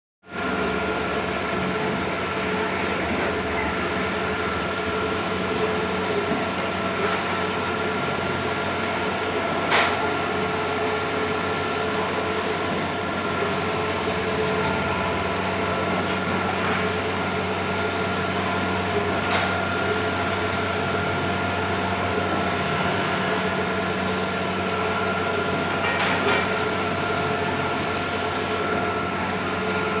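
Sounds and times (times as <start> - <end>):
printer mechanical hum: 0.3 - 30.0.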